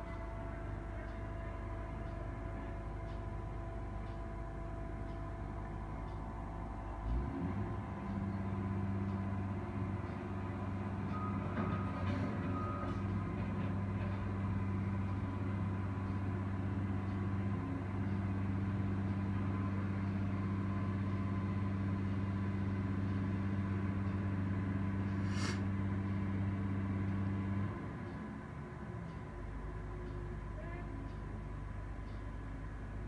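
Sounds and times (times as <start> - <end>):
excavator diesel engine droning: 0.0 - 33.0.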